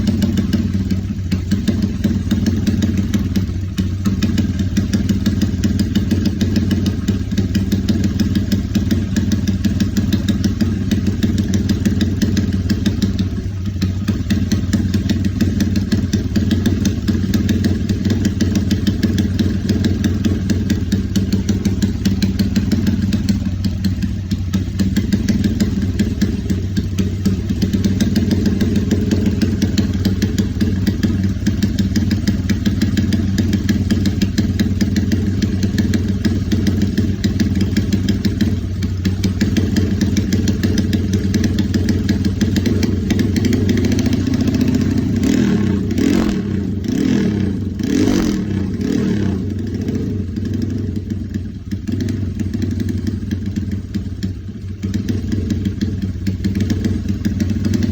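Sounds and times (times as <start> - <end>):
motorcycle engine running and blipped: 0.0 - 57.9.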